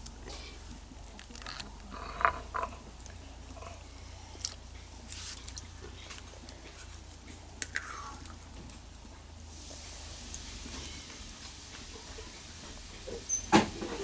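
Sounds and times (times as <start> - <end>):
dry sticks rustling: 0.0 - 13.2.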